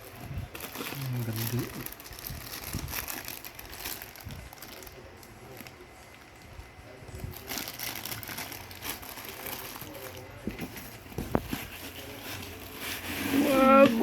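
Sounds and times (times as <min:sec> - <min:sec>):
plastic packaging crinkling: 0:00.0 - 0:06.6, 0:07.2 - 0:14.0
faint voices: 0:00.0 - 0:14.0.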